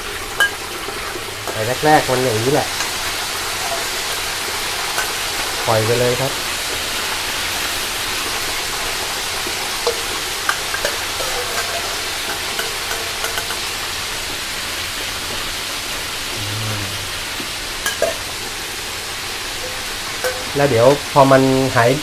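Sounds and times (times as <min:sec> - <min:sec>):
oil popping and crackling: 0:00.0 - 0:16.4, 0:17.1 - 0:22.0
chicken wings sizzling in oil: 0:00.0 - 0:22.0.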